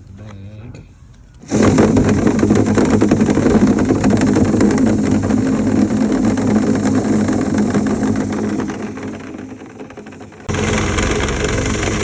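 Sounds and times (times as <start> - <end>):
fast rattle of cleaning tool: 1.4 - 12.0
motor hum: 1.4 - 12.0.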